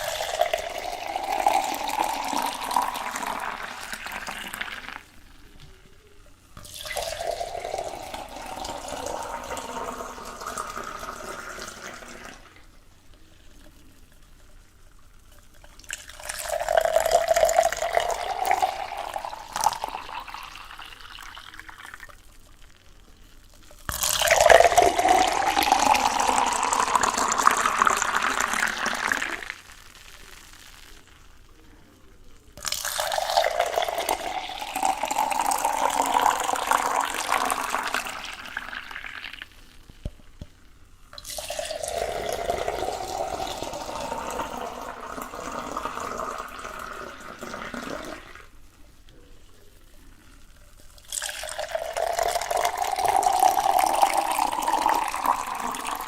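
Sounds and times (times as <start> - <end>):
water pouring into container: 0.0 - 5.5, 6.4 - 22.8, 23.4 - 56.0.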